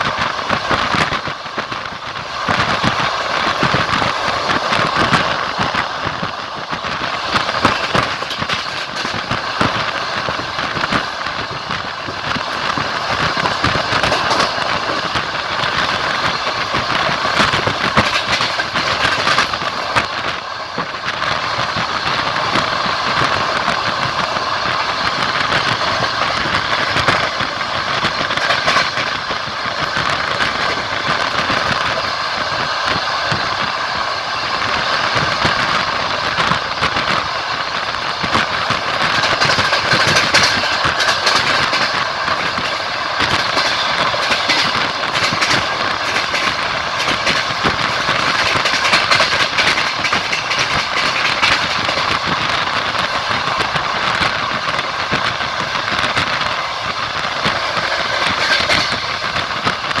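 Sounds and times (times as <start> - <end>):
train wheels clattering on rails: 0.0 - 60.0.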